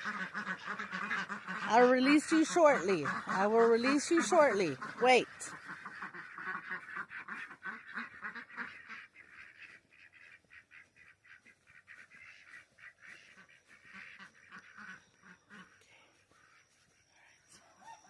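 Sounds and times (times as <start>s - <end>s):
ducks and geese calling: 0.0s - 18.0s.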